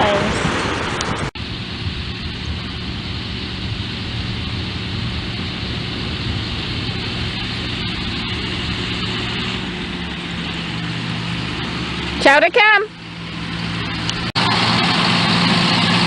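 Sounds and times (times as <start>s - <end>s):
heavy machinery engine humming: 0.0s - 16.0s.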